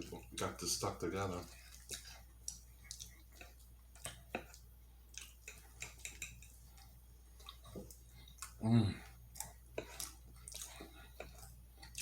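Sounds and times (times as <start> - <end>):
faint low hum: 0.0 - 12.0
chewing food smacks: 1.6 - 12.0.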